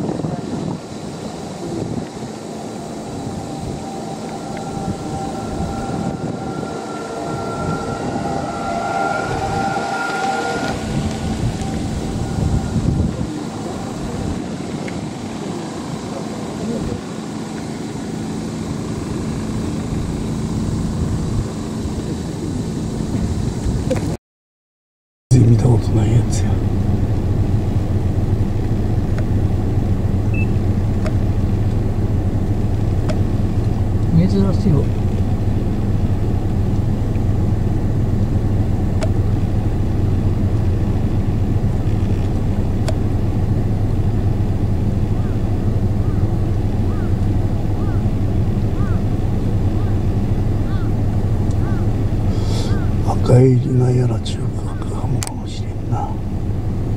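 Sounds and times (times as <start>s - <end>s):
engine idling: 0.0s - 8.6s, 9.6s - 23.9s, 25.3s - 56.9s
faint steady hum: 0.0s - 24.1s, 25.3s - 56.9s
low rumble: 0.0s - 24.2s, 25.3s - 56.9s.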